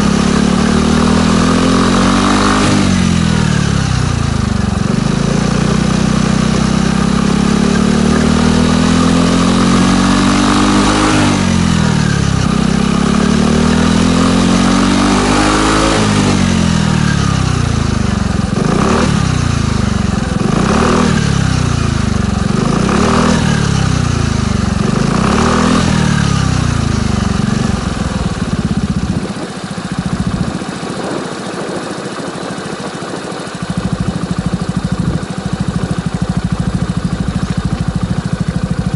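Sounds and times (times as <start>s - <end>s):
scooter engine revving: 0.0s - 38.9s.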